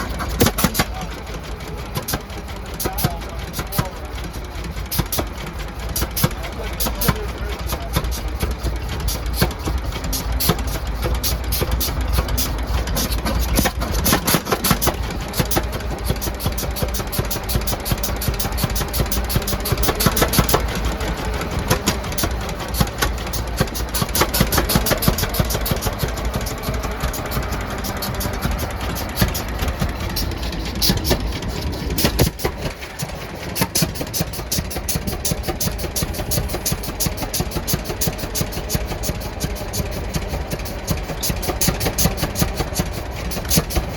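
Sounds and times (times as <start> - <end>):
old engine idling with clatter: 0.0 - 43.9.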